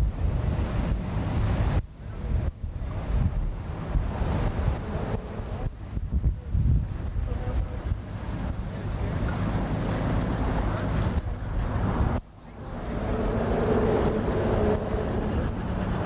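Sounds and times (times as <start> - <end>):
motorboat engine running: 0.0 - 16.0
water rushing past hull: 0.0 - 16.0
wind buffeting microphone: 0.0 - 16.0.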